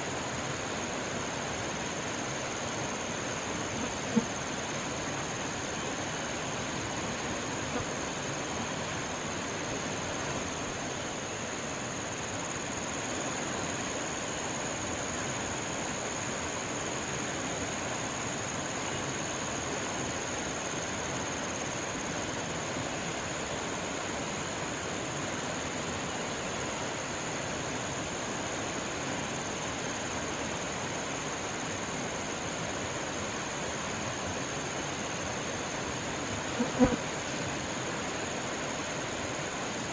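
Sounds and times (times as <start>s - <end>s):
constant high-pitched whine: 0.0s - 39.9s
forest rushing hiss: 0.0s - 39.9s.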